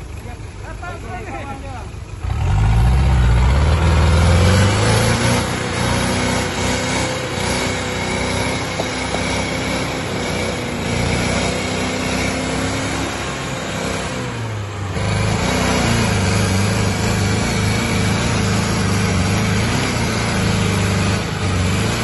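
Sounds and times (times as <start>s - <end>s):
diesel engine revving hard: 2.2s - 22.0s.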